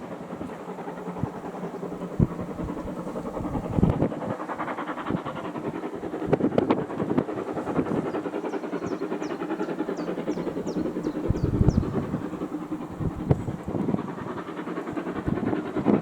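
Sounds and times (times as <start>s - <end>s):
steam train wheels clattering: 0.0s - 16.0s.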